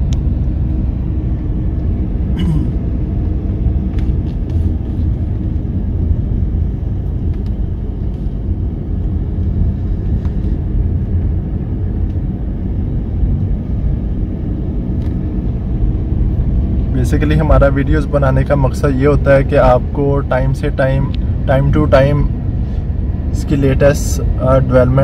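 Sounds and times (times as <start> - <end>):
car interior road rumble: 0.0 - 25.0.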